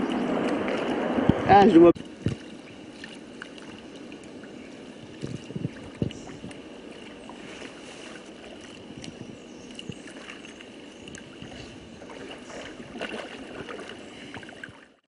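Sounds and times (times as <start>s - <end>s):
paddle splashing in water: 0.0s - 1.3s, 2.0s - 15.0s.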